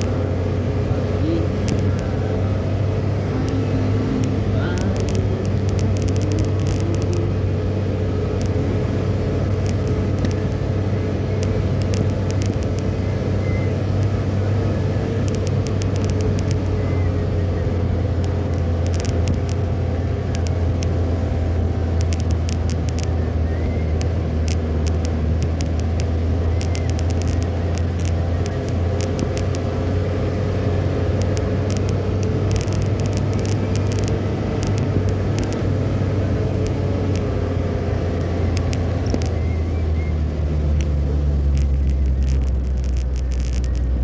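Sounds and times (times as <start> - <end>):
engine and road noise drone: 0.0 - 44.0
sharp clicks: 0.0 - 44.0.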